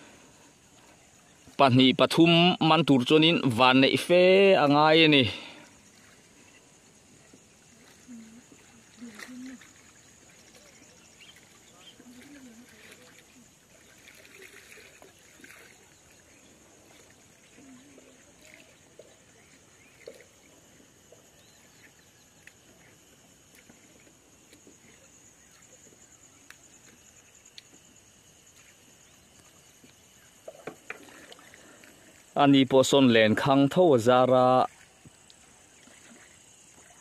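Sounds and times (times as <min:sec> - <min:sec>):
water trickling: 0:00.0 - 0:37.0.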